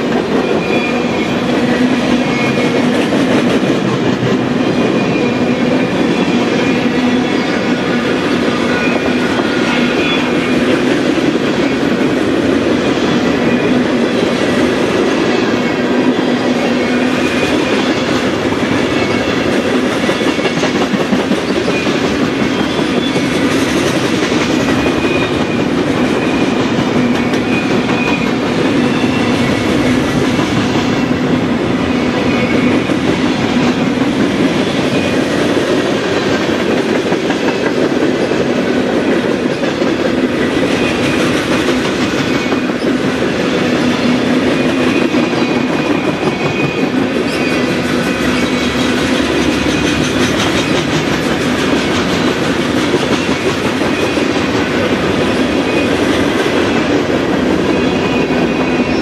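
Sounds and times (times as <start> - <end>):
freight train rumbling: 0.0 - 59.0
train wheels clacking on rails: 0.0 - 59.0.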